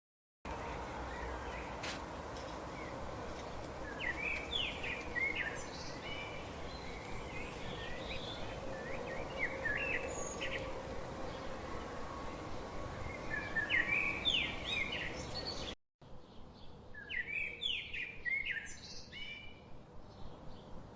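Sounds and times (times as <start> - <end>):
small birds chirping: 0.6 - 12.2, 13.0 - 20.9.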